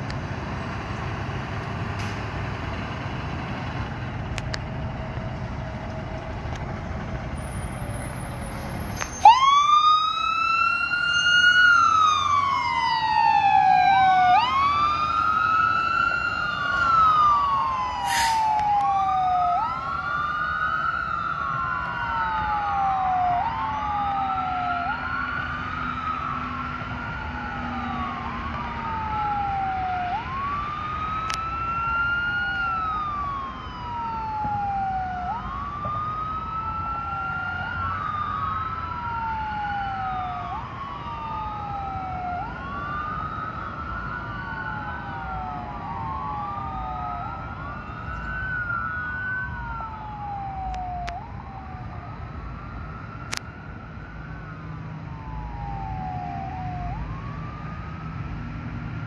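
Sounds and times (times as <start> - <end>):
fire engine siren wailing: 0.0 - 59.0.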